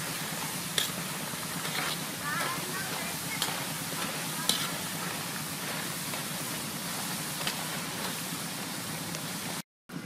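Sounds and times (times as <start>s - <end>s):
food deep-frying in oil: 0.0s - 9.6s.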